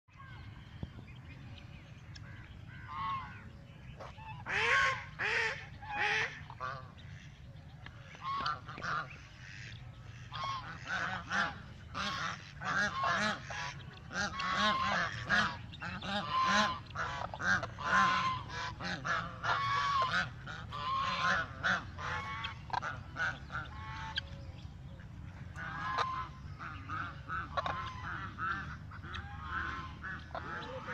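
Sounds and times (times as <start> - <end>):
ducks quacking and honking: 0.1 - 30.9
steady low rumble: 0.1 - 30.9.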